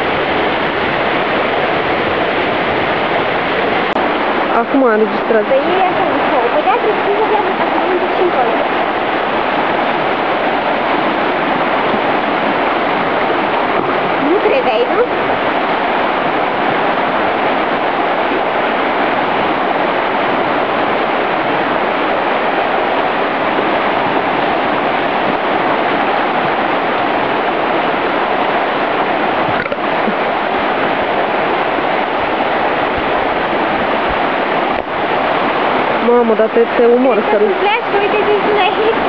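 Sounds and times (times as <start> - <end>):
river rushing over rapids: 0.0 - 39.0.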